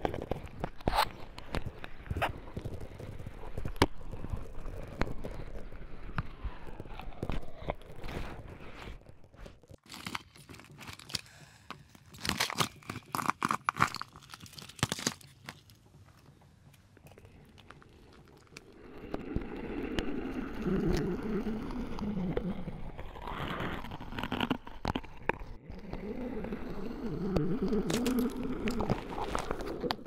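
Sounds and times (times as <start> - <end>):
crackling and crunching: 0.0 - 30.0.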